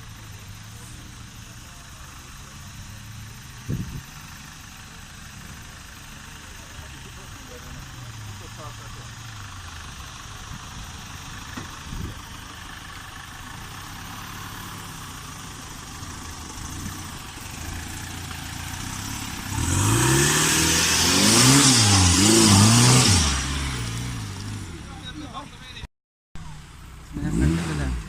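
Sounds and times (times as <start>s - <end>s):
vehicle engine revving: 0.0s - 25.6s, 26.4s - 28.0s.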